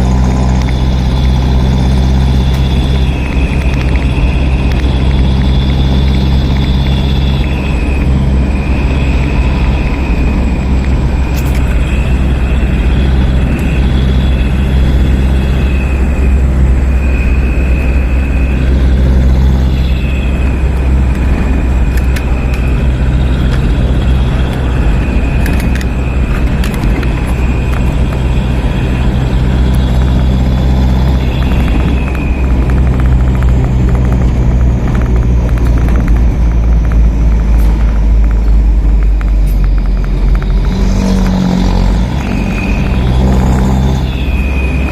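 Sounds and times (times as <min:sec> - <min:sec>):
high whining tone: 0:00.0 - 0:44.9
truck engines idling: 0:00.0 - 0:44.9.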